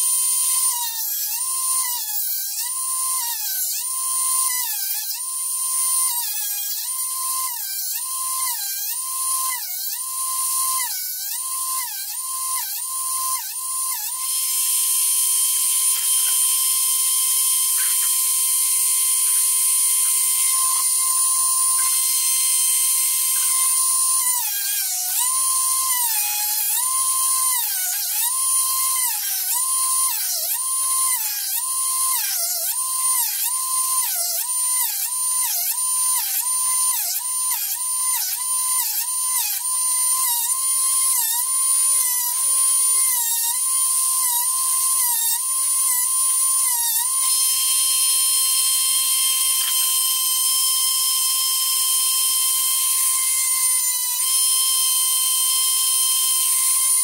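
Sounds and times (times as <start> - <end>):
drill bit grinding on wheel: 0.0 - 57.0
electric motor whining: 0.0 - 57.0.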